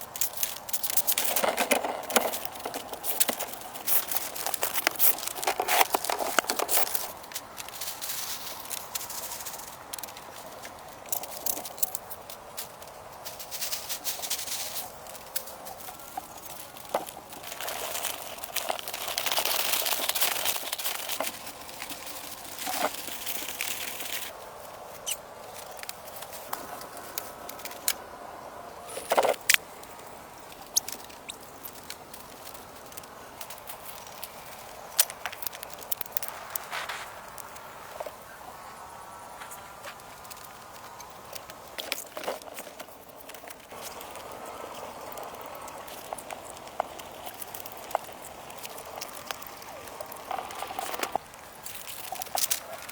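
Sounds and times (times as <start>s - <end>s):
rustling and crackling: 0.0s - 28.0s, 28.8s - 52.9s.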